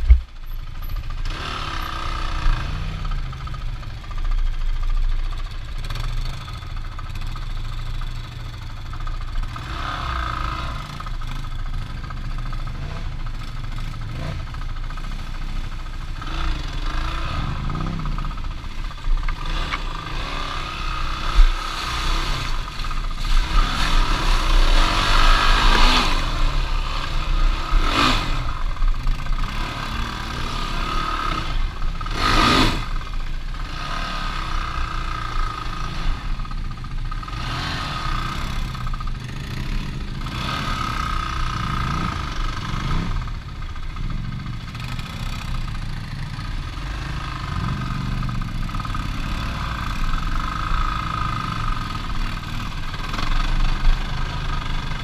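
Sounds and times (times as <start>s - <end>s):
off-road vehicle engine revving: 0.8s - 4.7s, 5.7s - 55.0s.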